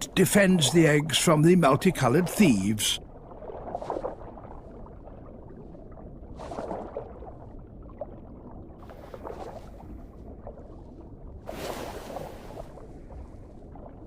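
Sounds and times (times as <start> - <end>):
underwater rumble with crackling: 0.0 - 14.0.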